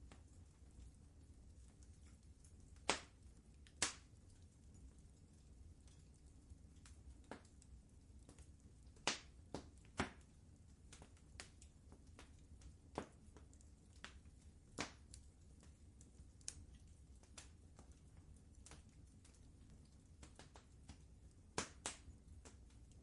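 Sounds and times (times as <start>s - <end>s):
faint low rumble: 0.0s - 23.0s
fireplace fire crackling: 0.0s - 23.0s.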